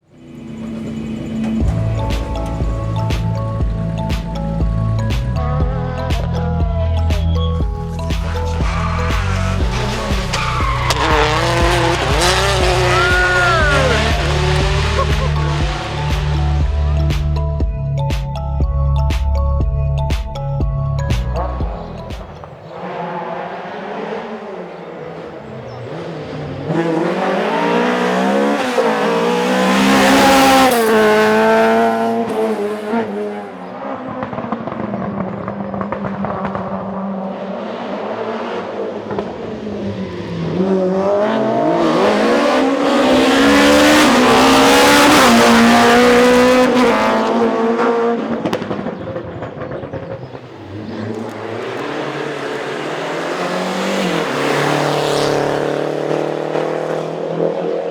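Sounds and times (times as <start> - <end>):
rally cars passing at full throttle: 0.0 - 6.1, 7.4 - 17.6, 21.4 - 57.9.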